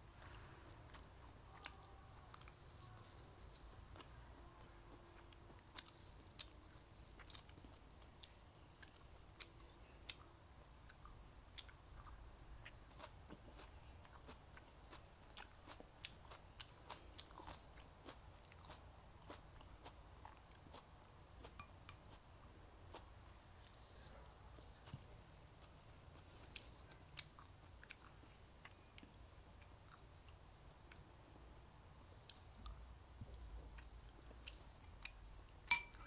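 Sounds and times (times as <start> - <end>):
chewing food: 0.1 - 31.2, 32.0 - 36.0.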